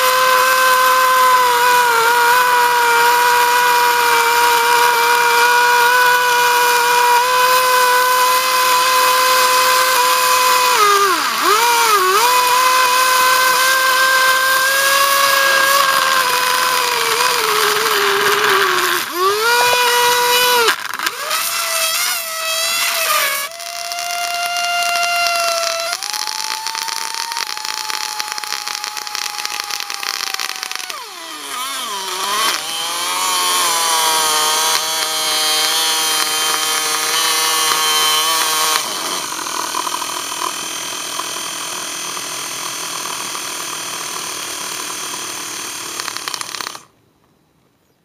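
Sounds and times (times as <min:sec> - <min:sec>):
small electric motor whining: 0:00.0 - 0:46.9.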